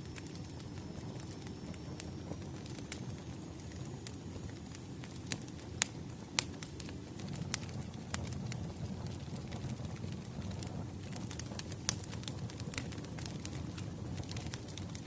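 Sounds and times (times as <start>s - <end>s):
fire low rumble: 0.0s - 15.0s
wood fire popping: 0.0s - 15.0s.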